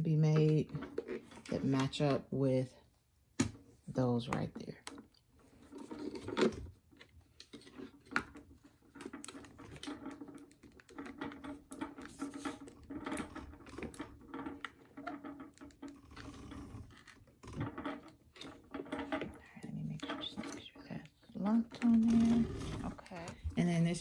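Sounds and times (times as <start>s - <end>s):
plastic clicks and knocks: 4.3s - 24.0s.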